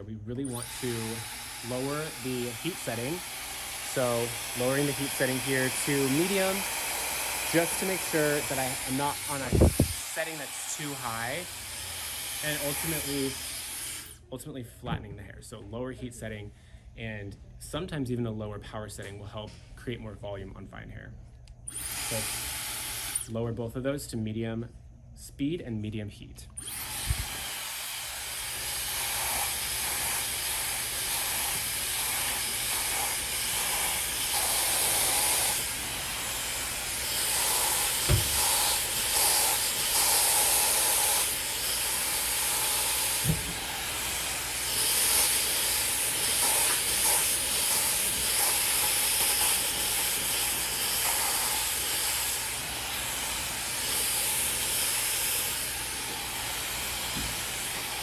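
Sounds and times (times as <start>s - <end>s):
hair dryer blowing: 0.4s - 14.2s, 21.7s - 23.3s, 26.6s - 58.0s.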